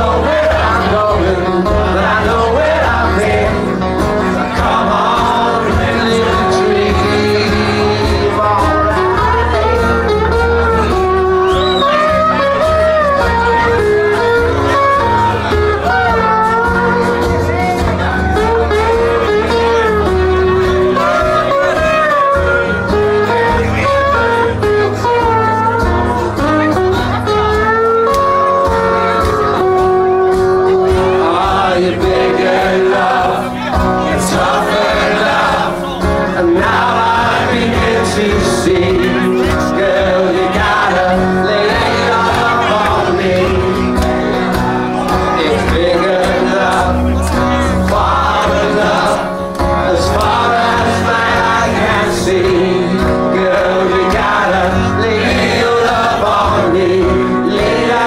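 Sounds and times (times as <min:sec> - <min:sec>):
man singing: 0:00.0 - 0:27.8, 0:28.4 - 0:58.0
live band music: 0:00.0 - 0:58.0.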